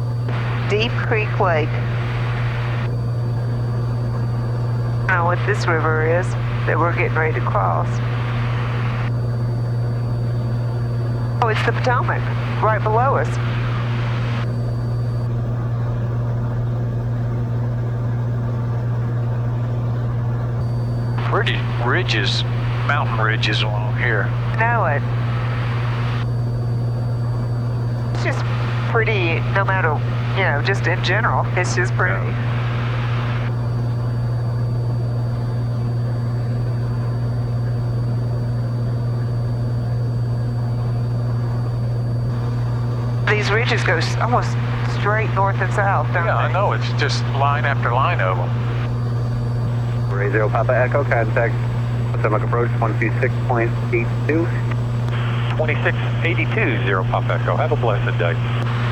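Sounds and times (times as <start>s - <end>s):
propeller plane engine droning: 0.0s - 58.9s.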